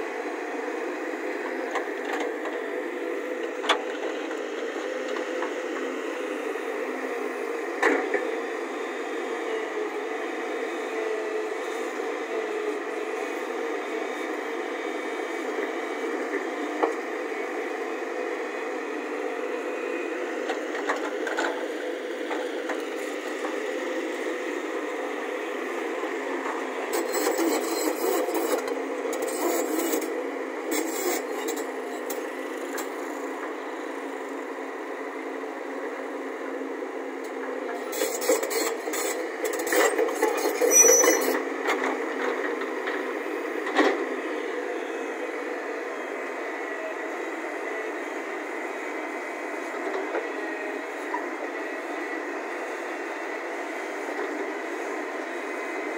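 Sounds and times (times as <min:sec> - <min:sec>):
excavator running: 0:00.0 - 0:55.9.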